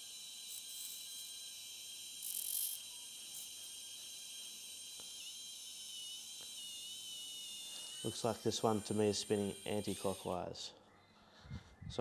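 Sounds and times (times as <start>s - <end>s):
electric motor whining: 0.0s - 10.6s
wood scratching spinning motor: 0.0s - 10.6s.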